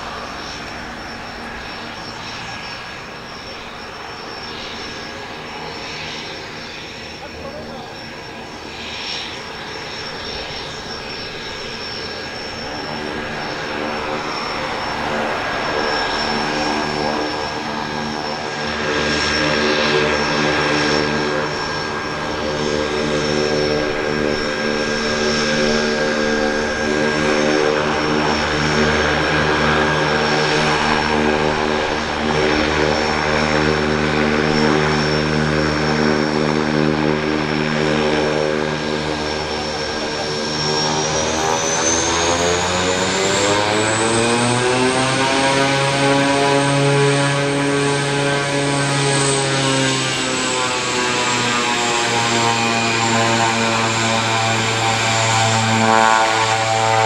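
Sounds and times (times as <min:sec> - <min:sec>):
high turbine whine: 0:00.0 - 0:57.0
turboprop propeller drone: 0:00.0 - 0:57.0.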